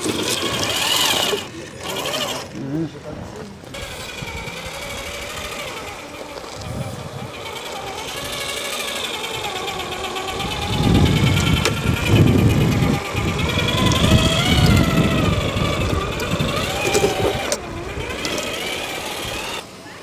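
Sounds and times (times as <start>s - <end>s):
electric motor whining: 0.0s - 2.9s, 3.6s - 20.0s.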